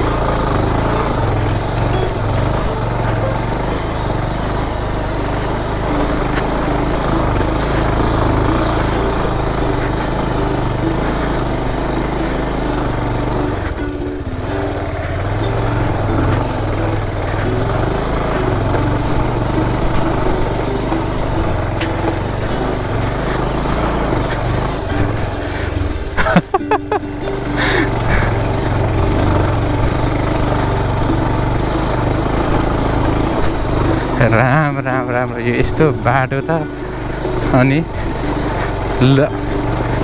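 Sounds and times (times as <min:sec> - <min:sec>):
small motorcycle engine running: 0:00.0 - 0:40.0.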